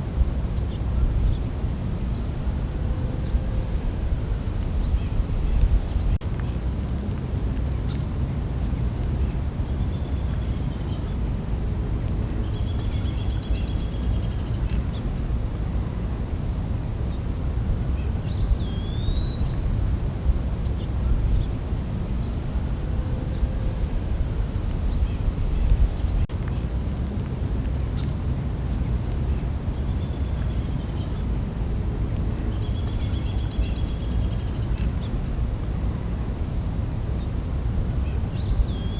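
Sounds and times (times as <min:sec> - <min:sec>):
high insect trill: 0:00.0 - 0:27.7, 0:28.3 - 0:38.9
crickets chirping: 0:00.0 - 0:38.9.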